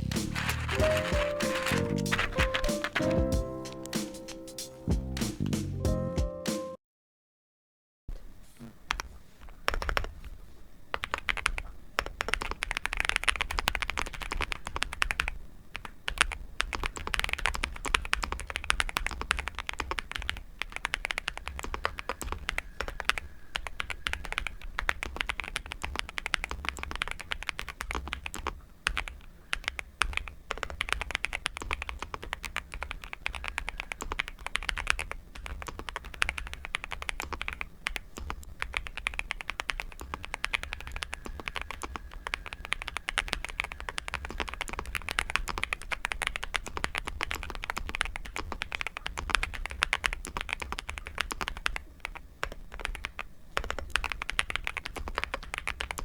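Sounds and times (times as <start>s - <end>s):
mechanical keyboard typing: 0.0s - 4.5s, 8.9s - 10.2s, 10.9s - 56.0s.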